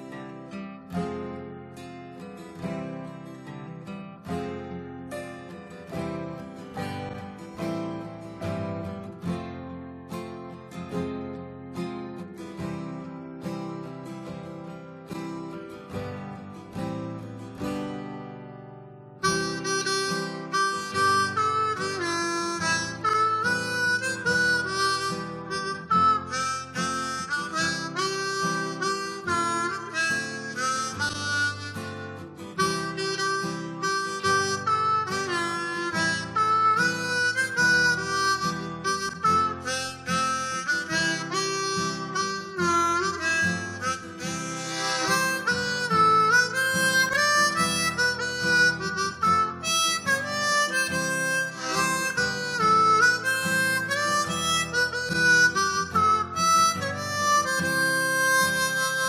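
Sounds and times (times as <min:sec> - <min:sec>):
harmonica playing blues melody: 0:00.0 - 0:18.5, 0:19.1 - 0:59.0.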